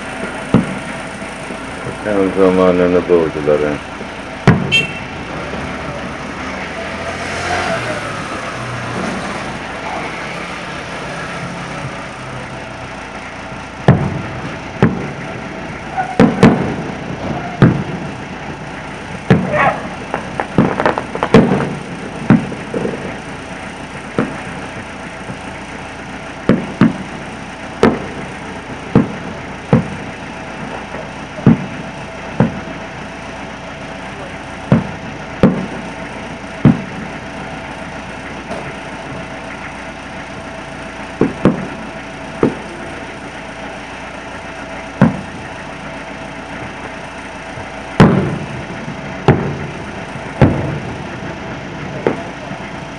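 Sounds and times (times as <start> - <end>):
distant firework bangs: 0.0 - 52.9.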